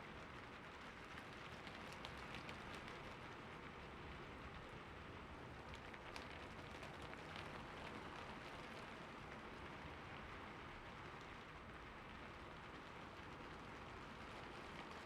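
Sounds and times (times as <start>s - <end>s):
soft rain falling: 0.1s - 15.0s.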